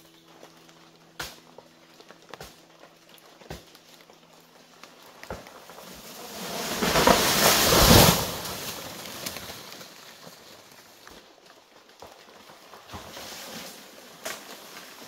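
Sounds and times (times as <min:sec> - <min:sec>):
wind rustling dry leaves: 0:00.0 - 0:15.0.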